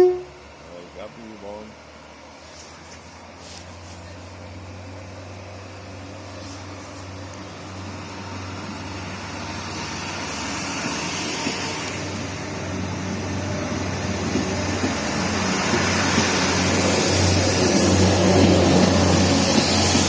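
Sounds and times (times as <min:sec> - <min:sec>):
diesel train approaching: 0:00.0 - 0:20.0.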